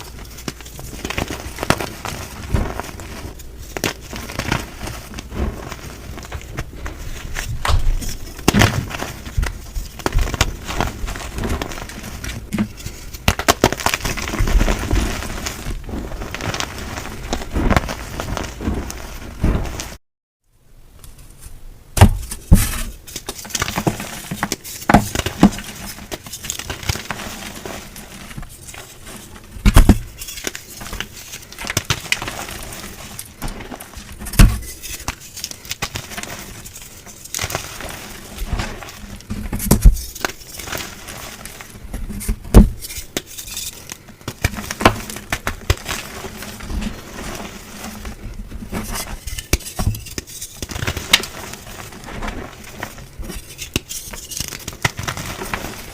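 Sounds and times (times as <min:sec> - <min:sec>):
soft powdery crackling: 0:00.0 - 0:20.0, 0:23.0 - 0:55.9.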